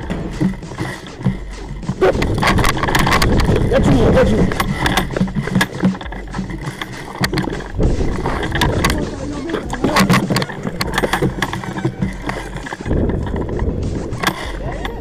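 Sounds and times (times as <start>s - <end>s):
clothing and gear rustling: 0.0s - 15.0s
low rumble on microphone: 0.0s - 15.0s
sharp clicks: 0.0s - 15.0s.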